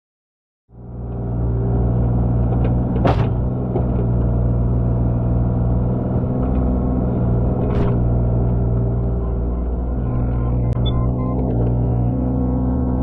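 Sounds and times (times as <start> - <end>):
diesel engine running: 0.7 - 13.0.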